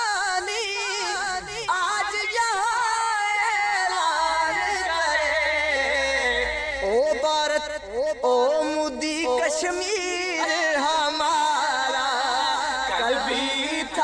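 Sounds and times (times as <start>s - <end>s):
two men singing ornamented notes: 0.0s - 14.0s.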